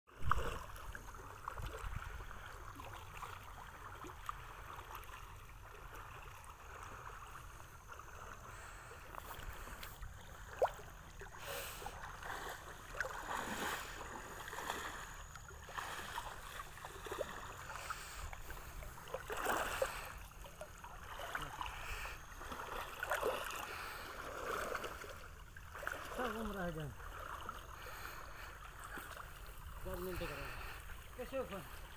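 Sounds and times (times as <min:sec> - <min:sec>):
short splashes: 0:00.1 - 0:31.9
water sloshing as people wade: 0:00.1 - 0:31.9.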